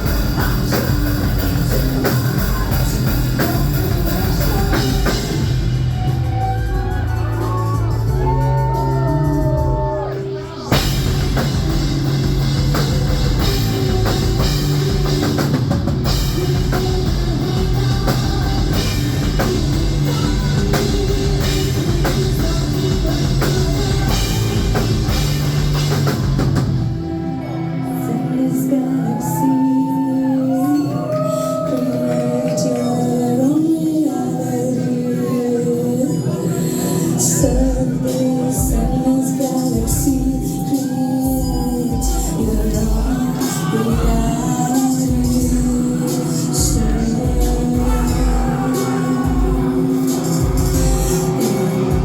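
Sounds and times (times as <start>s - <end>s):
woman singing: 0.0s - 26.5s, 27.2s - 52.0s
heavy metal band playing: 0.0s - 33.5s, 35.8s - 52.0s.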